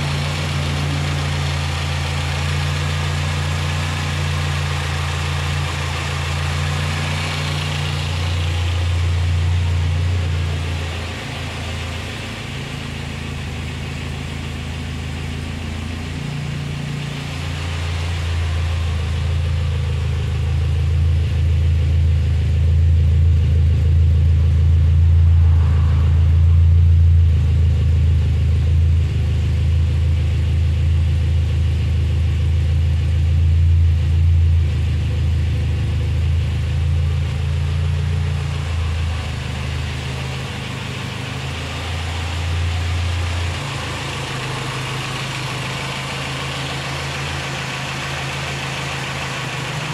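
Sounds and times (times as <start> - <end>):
car engine idling exhaust drone: 0.0 - 49.9
engine intake hiss and clatter: 0.0 - 49.9.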